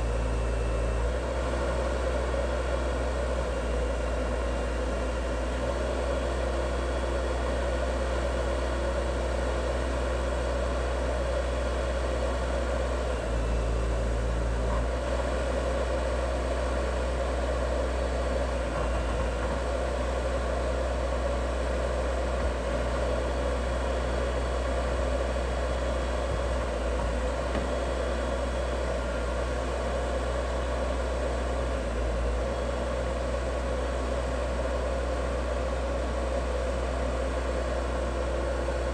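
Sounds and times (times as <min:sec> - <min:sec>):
machine engine drone: 0:00.0 - 0:38.9.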